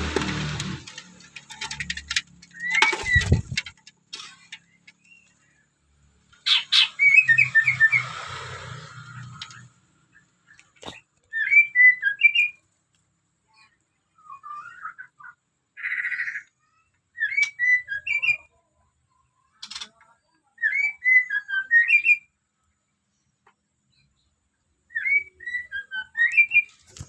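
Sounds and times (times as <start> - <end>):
bird chirping: 0.1 - 12.8, 13.5 - 27.0.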